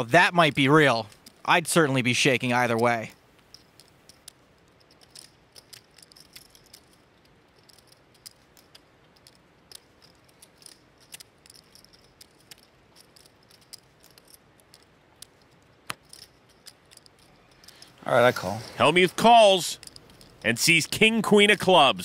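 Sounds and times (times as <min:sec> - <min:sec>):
poker chips clicking: 0:00.6 - 0:18.0, 0:18.8 - 0:22.0.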